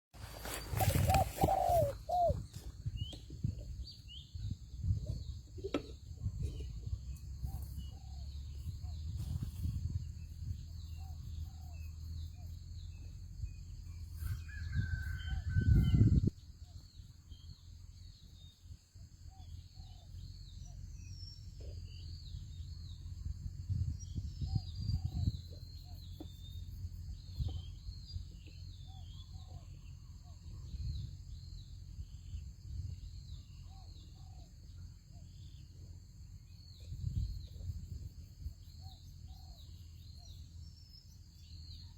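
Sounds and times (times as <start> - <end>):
wind rumbling on microphone: 0.2 - 20.4, 21.6 - 34.7, 35.3 - 39.8.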